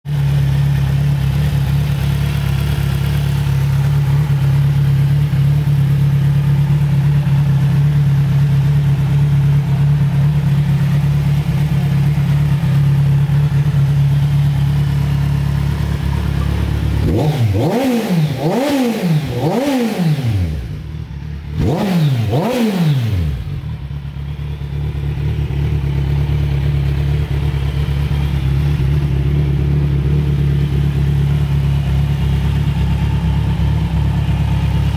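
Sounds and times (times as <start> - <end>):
motorcycle engine idling: 0.1 - 34.9
engine throttle blips: 6.9 - 34.9.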